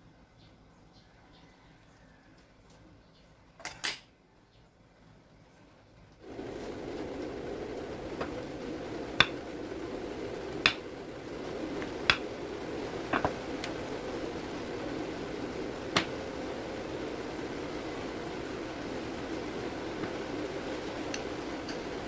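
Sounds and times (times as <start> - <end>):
steady background hiss: 4.2 - 22.0.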